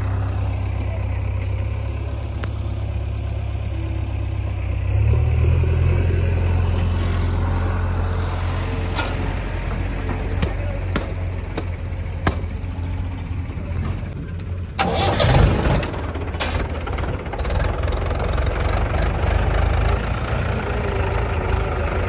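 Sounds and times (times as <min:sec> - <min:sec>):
tractor diesel engine starting: 0:00.0 - 0:22.0.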